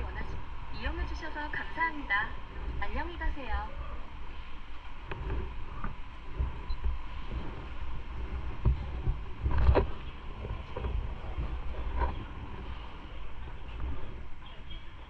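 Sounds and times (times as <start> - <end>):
low engine-like rumble: 0.0 - 15.0
wind noise on microphone: 0.0 - 15.0.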